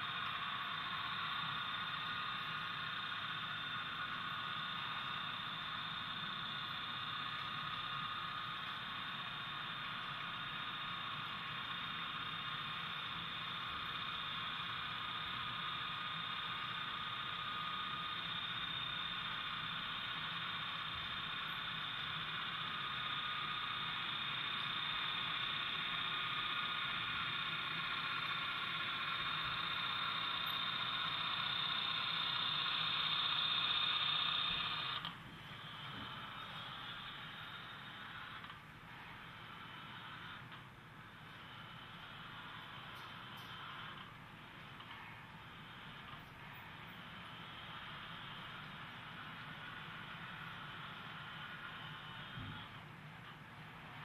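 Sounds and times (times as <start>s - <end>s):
model train whirring on track: 0.0s - 54.0s.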